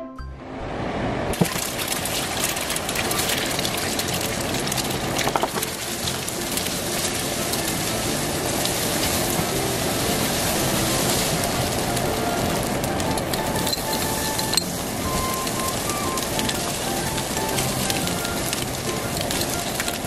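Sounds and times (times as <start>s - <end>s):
eggs sizzling in frying pan: 1.3s - 20.0s.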